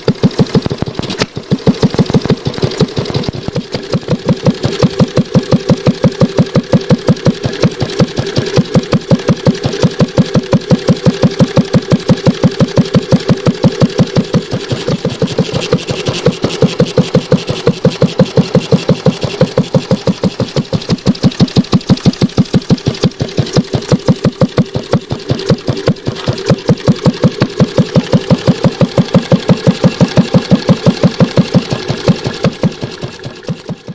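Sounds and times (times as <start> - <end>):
single-cylinder engine running: 0.0 - 33.9.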